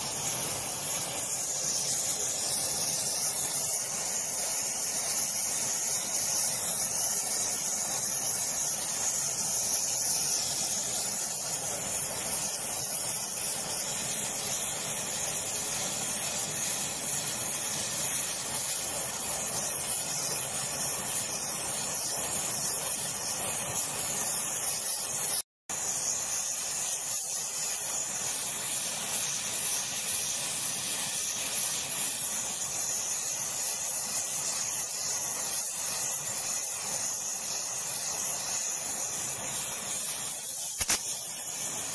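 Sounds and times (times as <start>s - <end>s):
gas torch flame hissing: 0.0s - 41.9s.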